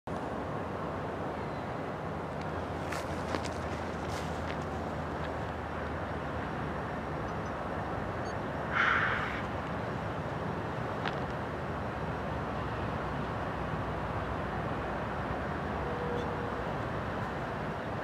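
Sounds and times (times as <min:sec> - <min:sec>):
distant diesel freight train rumble: 0:00.4 - 0:11.0, 0:11.8 - 0:18.0.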